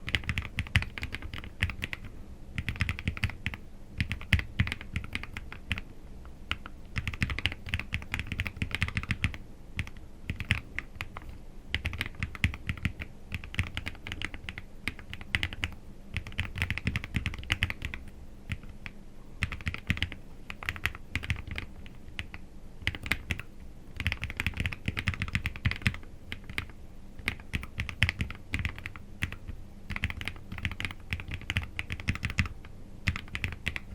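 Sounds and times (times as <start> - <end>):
mechanical keyboard typing: 0.0 - 5.8, 6.5 - 33.9.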